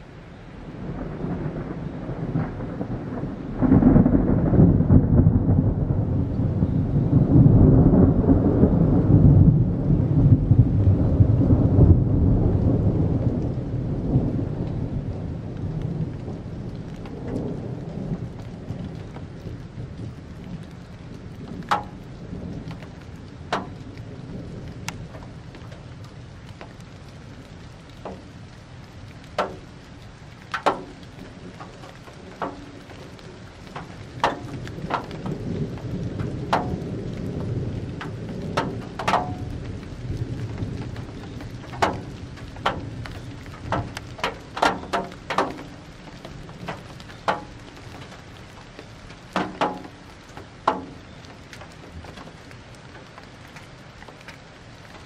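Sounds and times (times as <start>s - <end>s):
thunder rolling: 0.7s - 53.1s.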